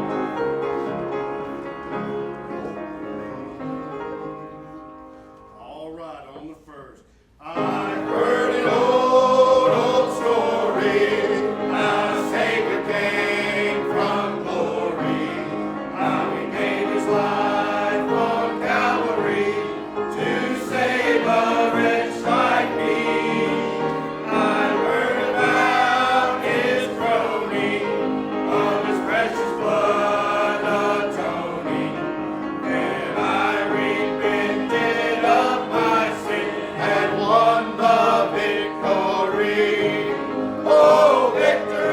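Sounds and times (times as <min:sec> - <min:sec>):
congregation singing a hymn: 0:00.0 - 0:05.4, 0:07.4 - 0:41.9.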